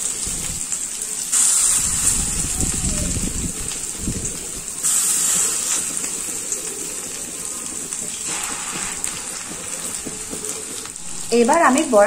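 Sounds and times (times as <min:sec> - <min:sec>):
batter deep-frying in hot oil: 0:00.0 - 0:12.0.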